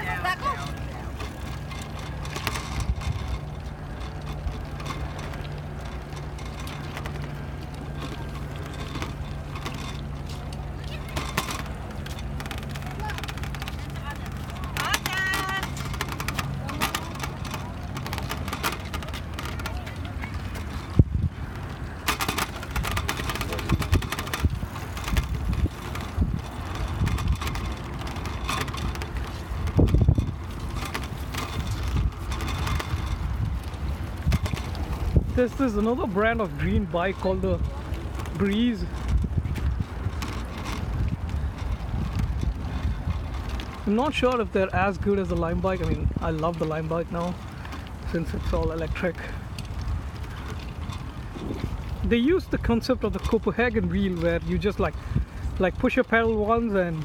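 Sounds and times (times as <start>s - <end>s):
knocks and rattles: 0.0s - 57.0s
tyre noise: 0.0s - 57.0s
wind rumble: 0.0s - 57.0s.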